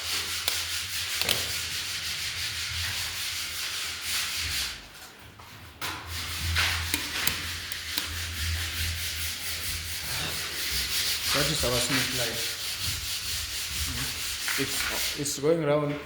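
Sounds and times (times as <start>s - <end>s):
sandpaper scraping plaster: 0.0s - 4.9s, 6.1s - 15.4s.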